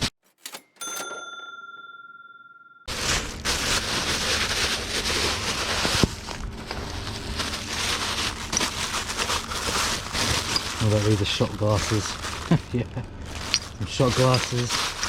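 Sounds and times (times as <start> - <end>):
packing paper rustling and crinkling: 2.9 - 15.0.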